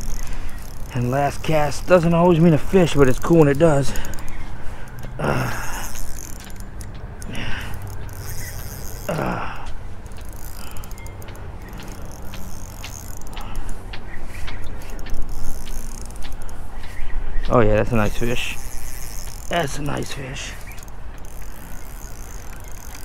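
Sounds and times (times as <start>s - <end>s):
fishing reel clicking: 0.0s - 23.0s.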